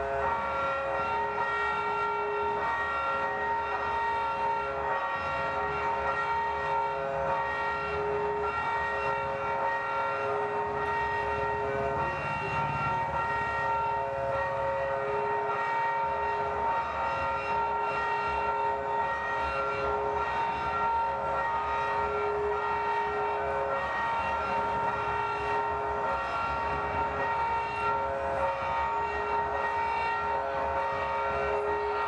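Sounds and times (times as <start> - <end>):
droning chord of held tones: 0.0 - 32.0.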